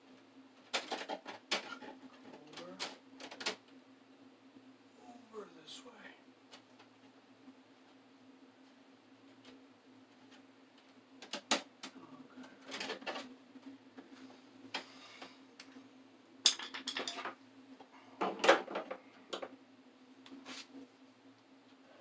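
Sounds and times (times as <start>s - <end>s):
steady low hum: 1.8s - 22.0s.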